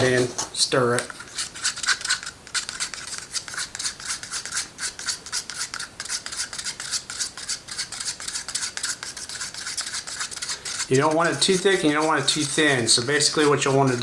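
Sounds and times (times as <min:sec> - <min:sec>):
stirrer scraping inside a cup: 0:00.9 - 0:14.0.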